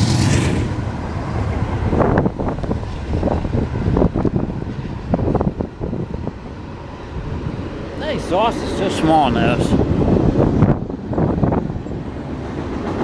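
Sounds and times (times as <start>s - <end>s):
passing train rumbling: 0.0s - 13.0s
wind gusting on microphone: 0.0s - 13.0s.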